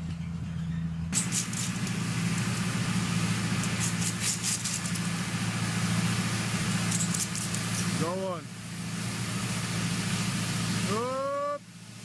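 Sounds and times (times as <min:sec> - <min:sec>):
machine engine running: 0:01.1 - 0:12.0.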